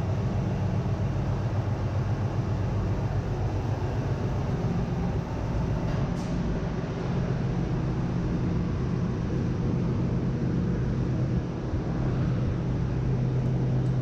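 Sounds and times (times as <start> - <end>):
low drone of engine machinery: 0.0 - 14.0.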